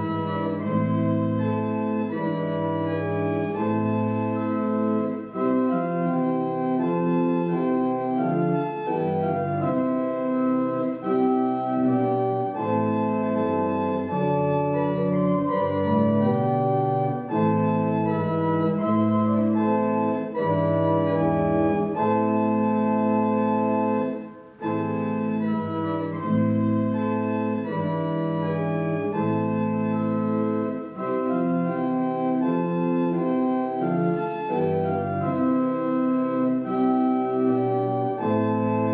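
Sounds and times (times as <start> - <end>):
church organ playing hymn chords: 0.0 - 38.9.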